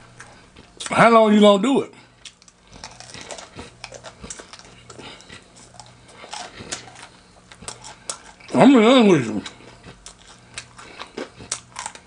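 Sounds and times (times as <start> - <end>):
steady low hum: 0.0 - 12.0
chewing crunchy food: 2.1 - 12.0.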